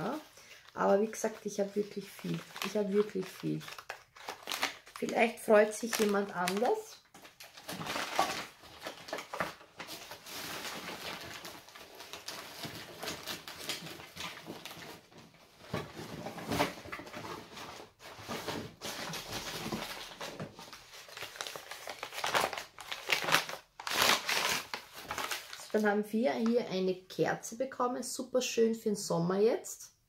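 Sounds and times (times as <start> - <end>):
paper and cardboard rustling: 0.0 - 25.9.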